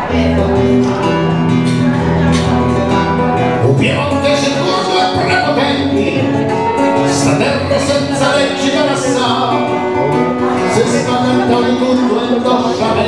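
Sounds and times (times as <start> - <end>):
man singing: 0.0 - 13.0
strummed acoustic guitar: 0.0 - 13.0.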